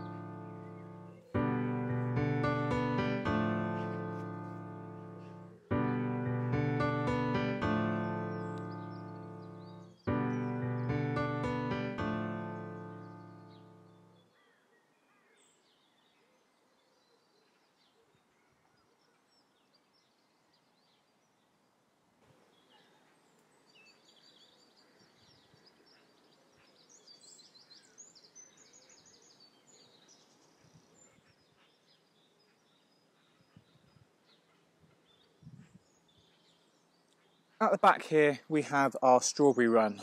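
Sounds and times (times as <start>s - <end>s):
small birds chirping: 0.0s - 21.8s, 22.4s - 40.0s.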